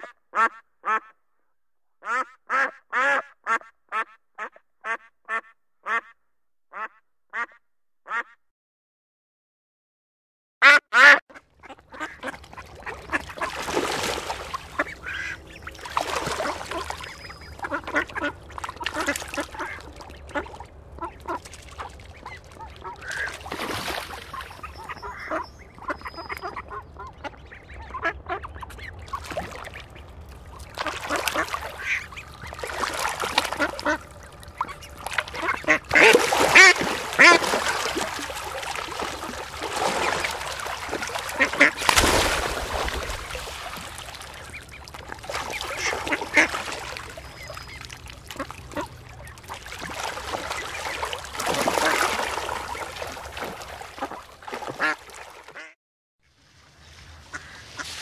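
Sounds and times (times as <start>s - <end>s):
ducks quacking: 0.0s - 1.1s, 2.0s - 8.4s, 10.6s - 55.8s, 57.2s - 58.0s.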